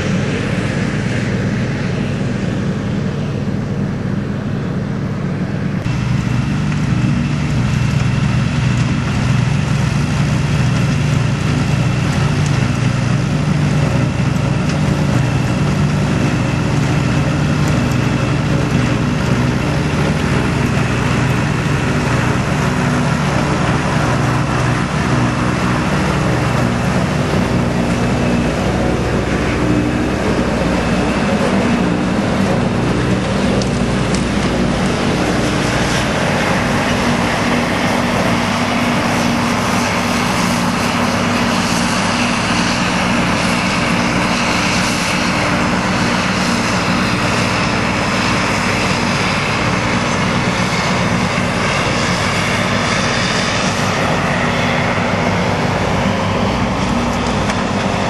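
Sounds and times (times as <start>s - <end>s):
forage harvester diesel drone: 0.0s - 58.0s
tractor engine: 0.0s - 58.0s.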